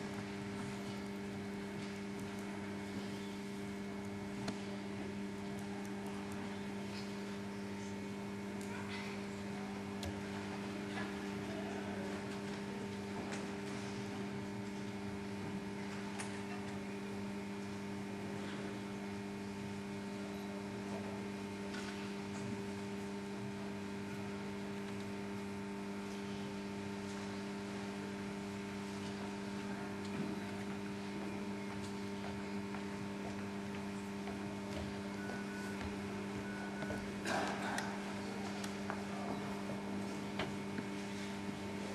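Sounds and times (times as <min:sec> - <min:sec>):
electrical hum: 0:00.0 - 0:41.9.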